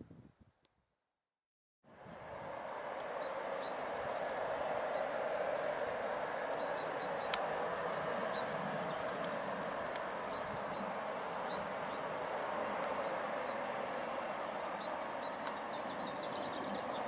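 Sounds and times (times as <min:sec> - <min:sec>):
outdoor background noise: 0:01.9 - 0:17.0.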